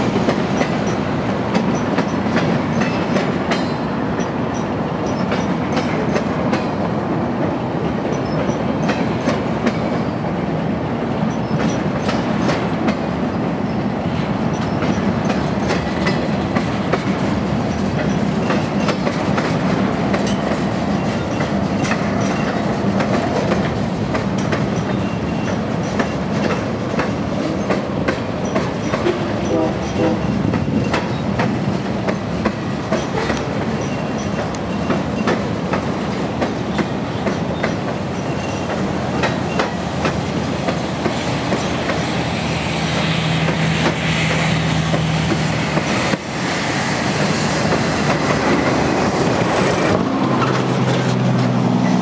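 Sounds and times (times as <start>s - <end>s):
wheels clicking over rail joints: 0.0s - 10.2s, 11.1s - 42.1s, 47.1s - 52.0s
train wheels rumbling: 0.0s - 52.0s.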